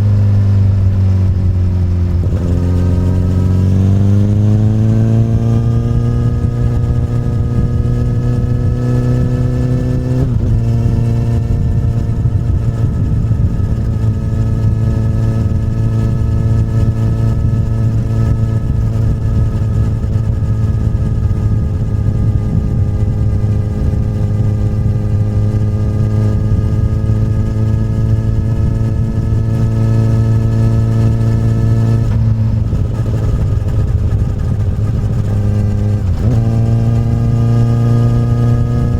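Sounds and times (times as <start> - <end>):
motorcycle exhaust note: 0.0 - 38.9.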